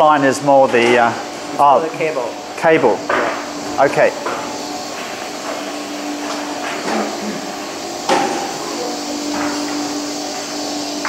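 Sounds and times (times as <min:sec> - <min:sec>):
factory machinery humming: 0:00.0 - 0:11.0.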